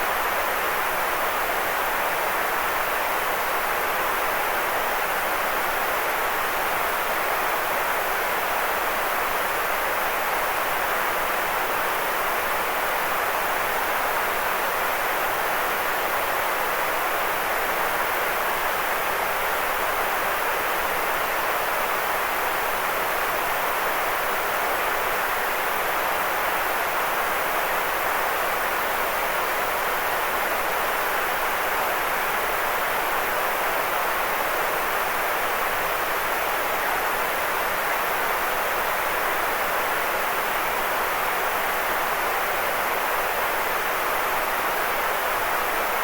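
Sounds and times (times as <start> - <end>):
steady white noise hiss: 0.0 - 46.0.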